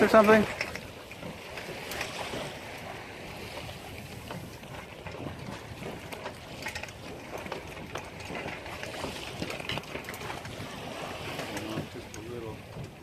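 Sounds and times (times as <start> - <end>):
water splashing against hull: 0.0 - 13.0
wind noise on microphone: 0.0 - 13.0.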